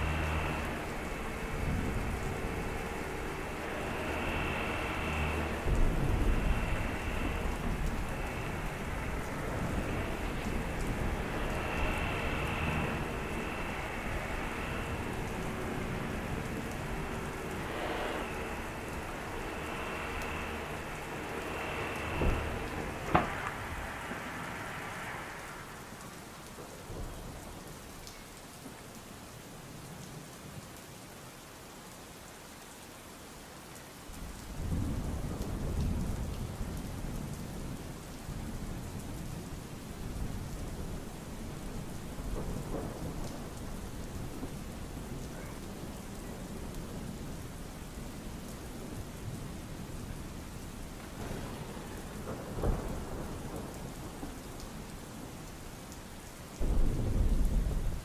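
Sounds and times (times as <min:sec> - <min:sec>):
thunder rumbling: 0:00.0 - 0:27.9, 0:34.1 - 0:58.0
heavy rain: 0:00.0 - 0:58.0.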